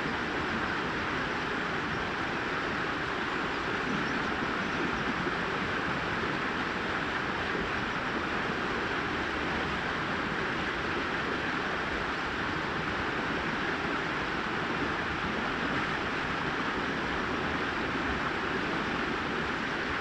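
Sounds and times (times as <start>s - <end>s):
brook water rushing and babbling: 0.0s - 20.0s.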